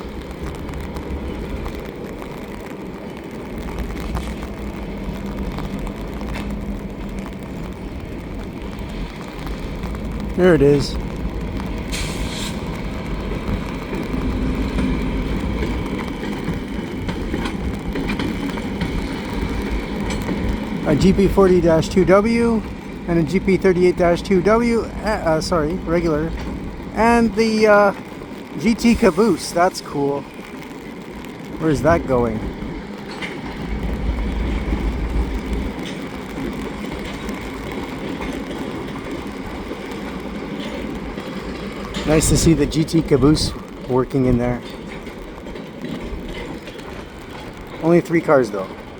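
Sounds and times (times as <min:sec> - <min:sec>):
diesel locomotive engine rumble: 0:00.0 - 0:48.9.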